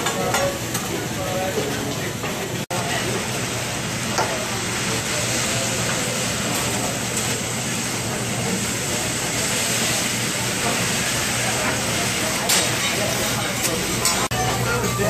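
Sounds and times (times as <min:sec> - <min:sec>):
noodles sizzling on griddle: 0:02.4 - 0:15.0.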